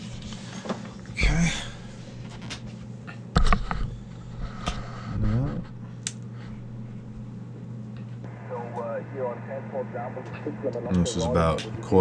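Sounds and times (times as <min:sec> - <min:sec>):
low hum and radio band noise: 0:00.0 - 0:12.0.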